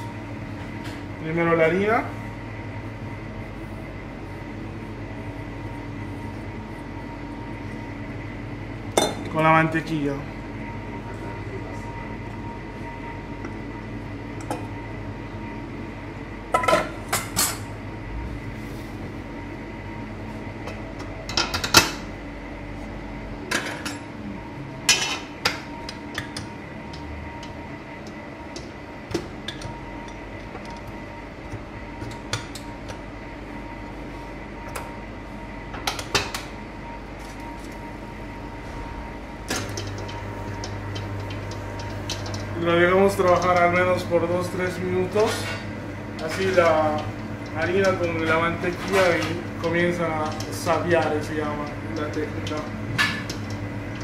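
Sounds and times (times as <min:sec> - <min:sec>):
kitchen hum: 0:00.0 - 0:54.0.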